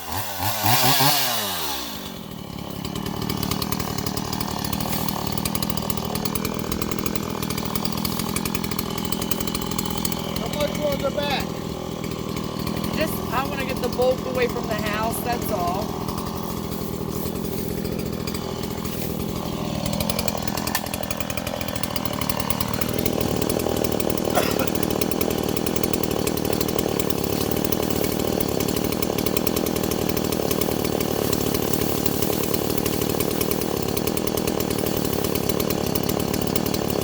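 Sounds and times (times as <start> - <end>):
chainsaw cutting bamboo: 0.0 - 37.0
bamboo cracking: 0.6 - 10.5, 11.5 - 12.9, 15.9 - 37.0.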